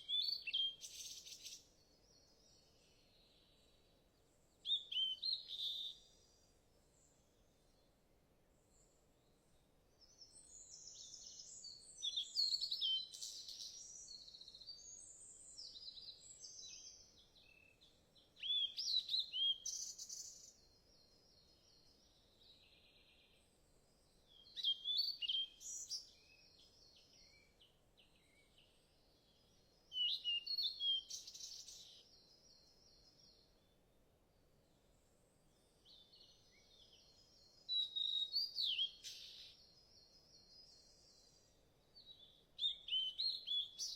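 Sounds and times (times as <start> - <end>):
songbird singing trills: 0.0 - 3.8, 4.6 - 6.4, 10.0 - 23.4, 24.3 - 33.7, 35.5 - 43.9.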